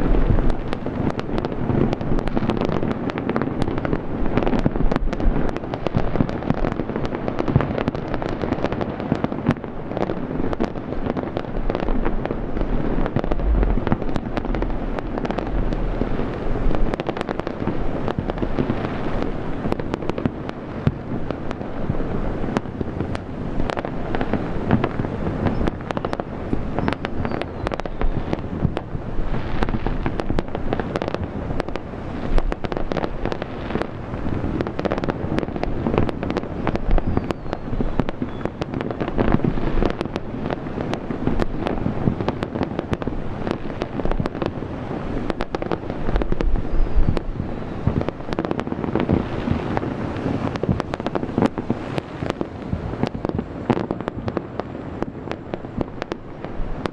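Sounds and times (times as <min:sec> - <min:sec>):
firework cracks: 0:00.0 - 0:56.9
rumble of explosions: 0:00.0 - 0:56.9.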